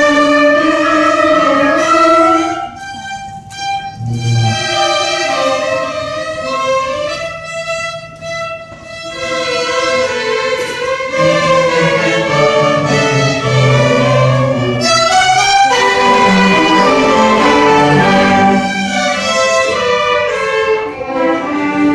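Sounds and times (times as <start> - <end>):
cellos holding low notes: 0.0 - 21.9
violins playing melody: 0.0 - 21.9.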